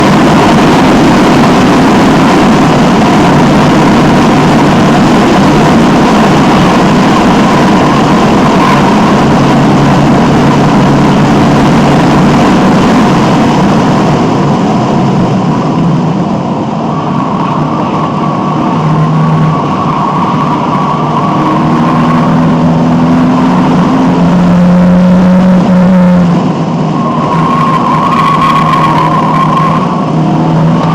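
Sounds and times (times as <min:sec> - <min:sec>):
car engine accelerating hard: 0:00.0 - 0:30.9.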